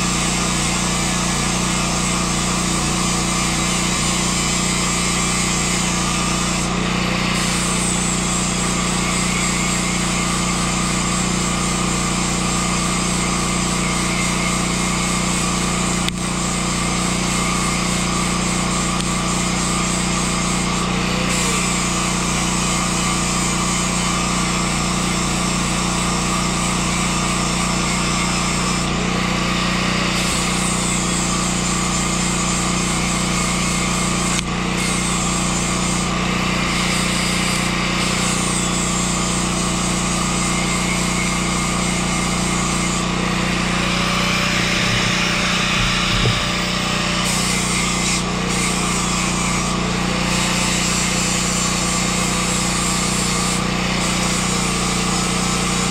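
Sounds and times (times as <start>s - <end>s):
electric grinder on steel: 0.0s - 55.9s.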